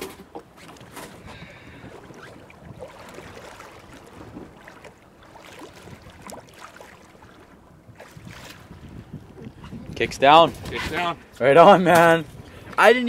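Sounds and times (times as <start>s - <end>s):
water splashing against boat hull: 0.0s - 11.2s.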